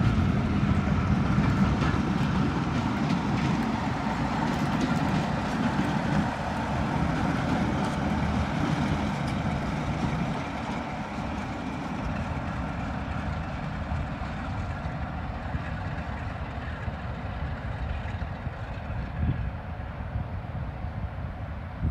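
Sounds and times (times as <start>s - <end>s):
diesel locomotive engine: 0.0s - 21.9s.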